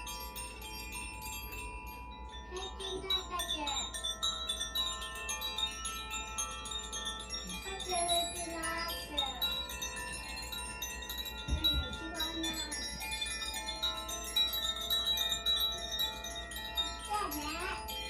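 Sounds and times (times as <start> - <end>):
tuned chimes ringing: 0.0 - 18.0.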